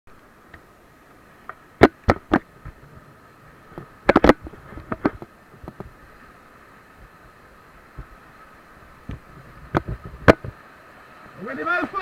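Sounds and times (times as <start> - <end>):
river rapids rushing: 0.1 - 12.0.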